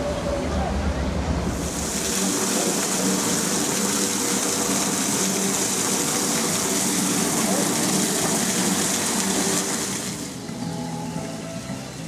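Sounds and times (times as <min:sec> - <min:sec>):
fountain splashing: 0:01.5 - 0:12.0.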